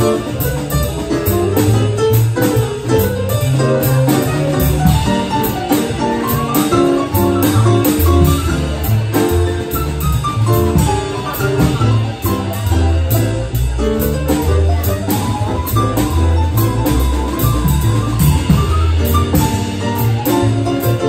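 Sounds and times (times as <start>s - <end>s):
double bass: 0.0s - 21.0s
drums on ride cymbal: 0.0s - 21.0s
piano: 0.0s - 21.0s.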